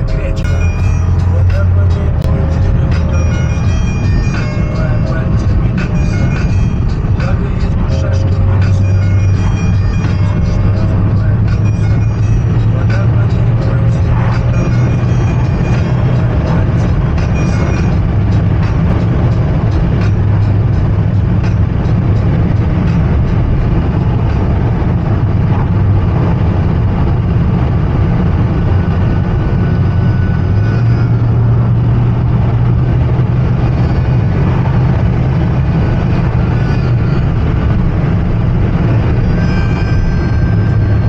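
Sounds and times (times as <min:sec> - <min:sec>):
car engine drone: 0:00.0 - 0:41.0
road noise: 0:00.0 - 0:41.0.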